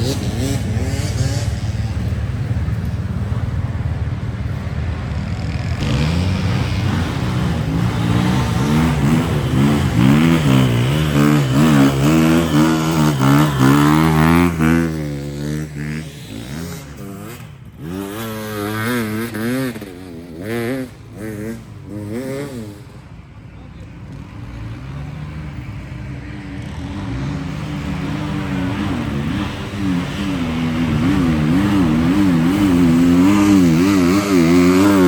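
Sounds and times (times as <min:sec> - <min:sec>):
motocross bikes revving: 0:00.0 - 0:35.0.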